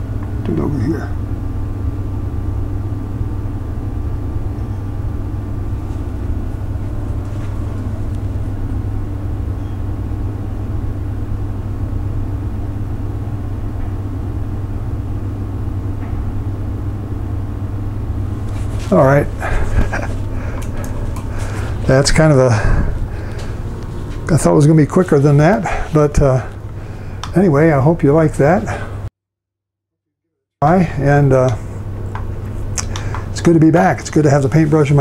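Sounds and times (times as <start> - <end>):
low machine hum: 0.0 - 29.1, 30.6 - 35.0.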